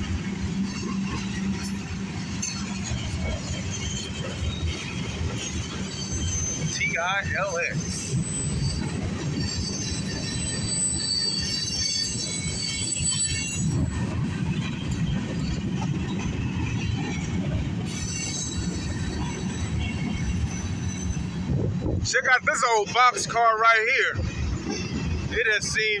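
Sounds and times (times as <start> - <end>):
freight train wheels rumbling: 0.0 - 26.0
high wheel squeal: 0.5 - 26.0.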